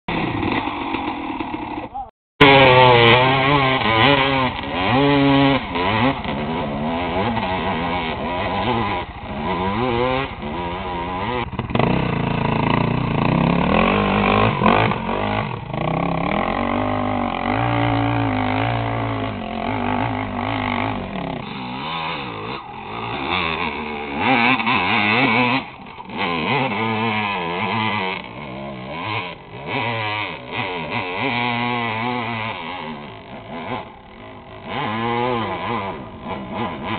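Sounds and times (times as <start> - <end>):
dirt bike engine revving: 0.1 - 36.9.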